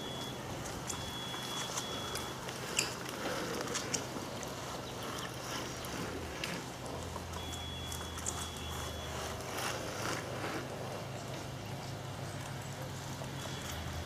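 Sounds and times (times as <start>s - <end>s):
bicycle clicks and ticks: 0.0s - 14.0s
outdoor noise: 0.0s - 14.0s.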